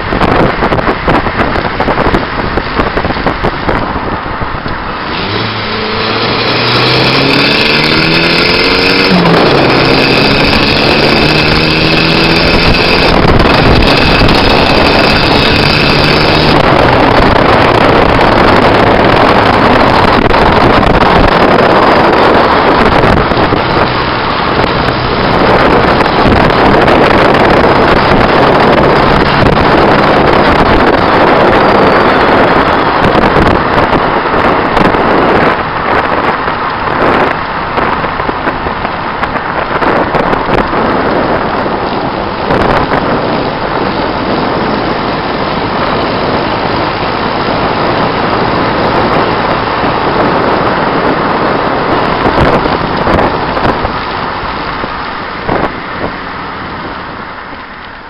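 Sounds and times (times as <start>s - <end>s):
car engine accelerating: 0.0s - 58.0s
wind and road rush: 0.0s - 58.0s.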